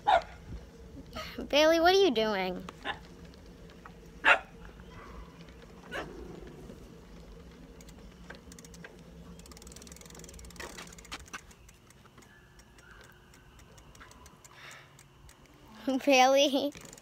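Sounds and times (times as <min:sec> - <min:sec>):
bicycle freewheel ticking: 0:00.0 - 0:17.0.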